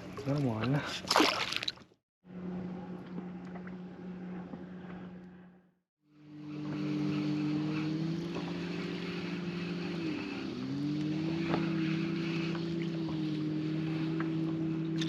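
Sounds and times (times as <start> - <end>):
boat motor running: 2.2 - 15.0.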